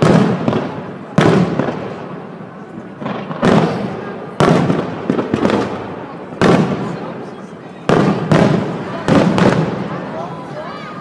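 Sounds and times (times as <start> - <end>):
firework shells booming: 0.0 - 10.1.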